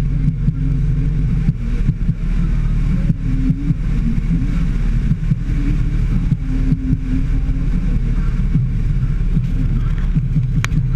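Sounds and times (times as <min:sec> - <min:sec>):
vehicle engine and road rumble: 0:00.0 - 0:10.9
wind buffeting microphone: 0:00.0 - 0:10.9.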